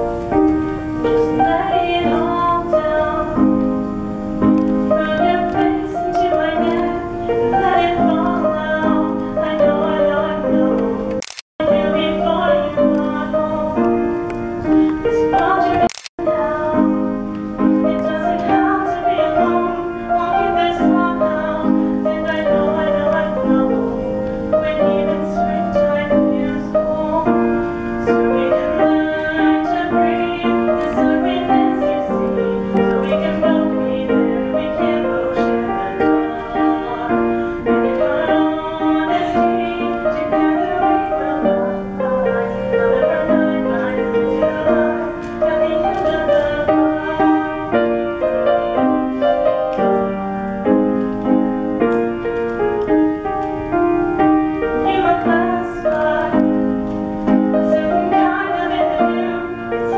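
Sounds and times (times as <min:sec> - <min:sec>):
piano chords: 0:00.0 - 0:59.9
girl singing: 0:00.8 - 0:03.8, 0:04.4 - 0:50.2, 0:54.2 - 0:59.9.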